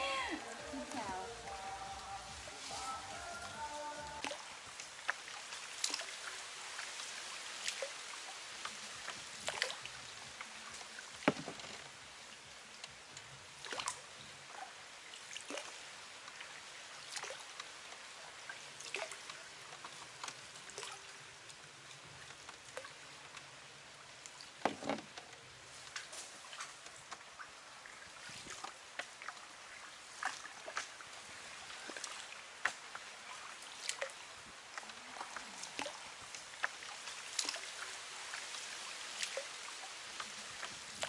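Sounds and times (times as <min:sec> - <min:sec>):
light steady hiss: 0:00.0 - 0:41.0
oar splashes and drips: 0:00.3 - 0:41.0.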